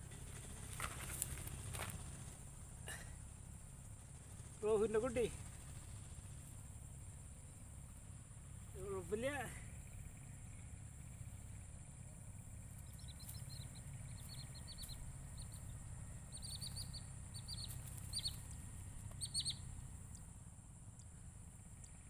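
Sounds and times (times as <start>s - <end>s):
small bird chirping: 3.5s - 22.0s.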